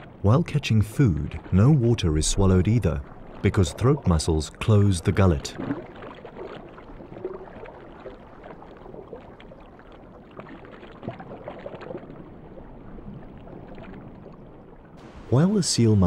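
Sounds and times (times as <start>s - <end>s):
underwater swishing and bubbling: 0.0s - 16.0s.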